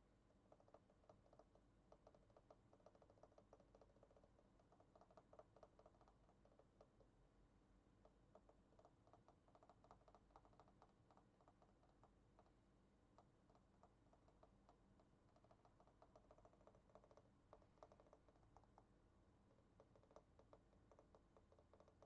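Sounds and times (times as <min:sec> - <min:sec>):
faint keyboard typing: 0:00.2 - 0:07.2, 0:08.0 - 0:22.0.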